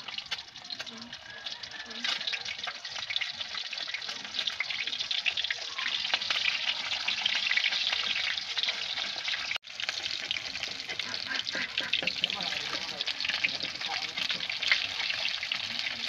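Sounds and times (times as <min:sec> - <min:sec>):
egg sizzling in hot oil: 0:00.0 - 0:16.0.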